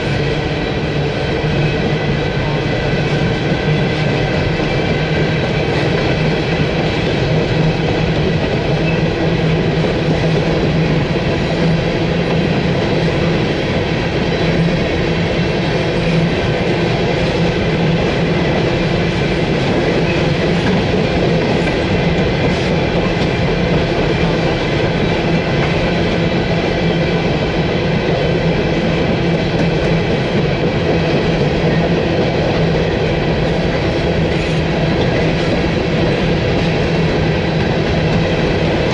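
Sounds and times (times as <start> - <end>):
train cars rumbling and rattling: 0.0 - 38.9.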